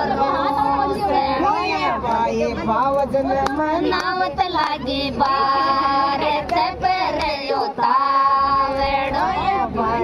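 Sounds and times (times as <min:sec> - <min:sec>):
women singing folk song: 0:00.0 - 0:02.2, 0:03.8 - 0:10.0.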